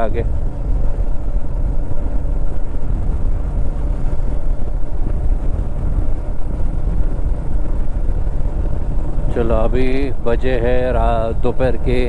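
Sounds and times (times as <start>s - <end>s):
motorcycle engine cruising: 0.0s - 12.0s
wind rush over microphone: 0.0s - 12.0s.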